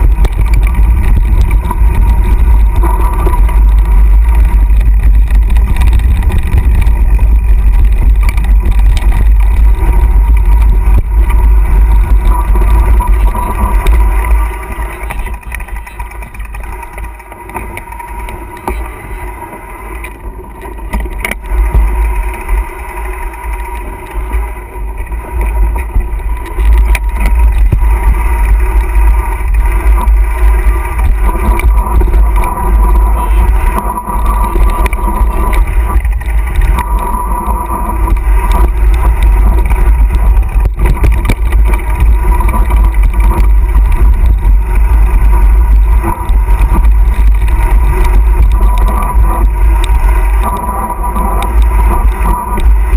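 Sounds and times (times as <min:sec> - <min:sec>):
wind buffeting microphone: 0:00.0 - 0:17.7, 0:20.9 - 0:52.9
bike rattling on dirt trail: 0:00.0 - 0:52.9.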